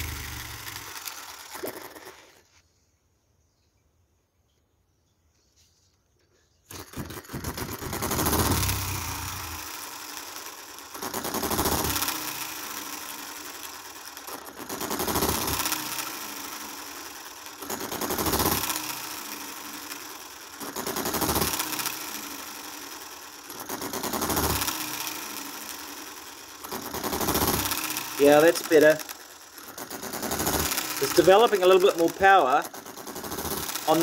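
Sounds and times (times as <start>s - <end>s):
fast mechanical clatter: 0.0s - 2.5s, 6.6s - 34.0s
engine firing strokes: 0.0s - 2.6s, 6.7s - 34.0s.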